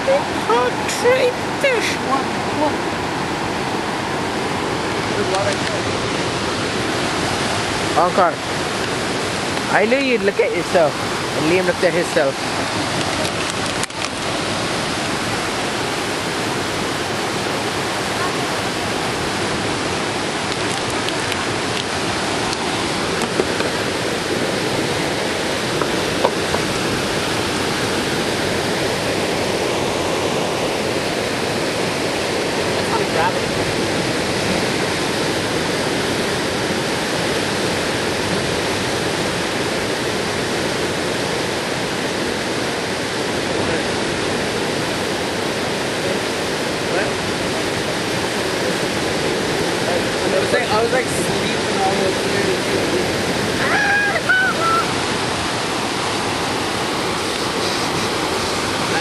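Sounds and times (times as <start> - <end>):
fast-flowing water rushing: 0.0 - 59.0.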